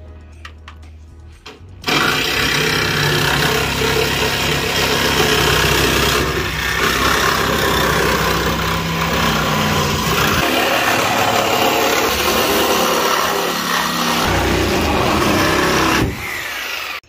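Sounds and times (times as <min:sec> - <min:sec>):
power saw cutting metal: 0:01.8 - 0:17.0.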